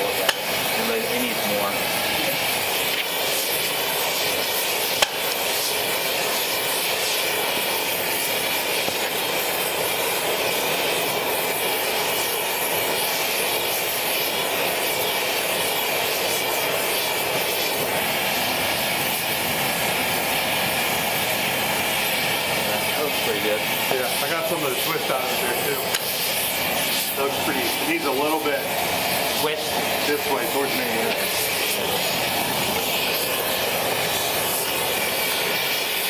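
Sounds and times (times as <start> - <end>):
gas torch flame hissing: 0.0 - 36.0.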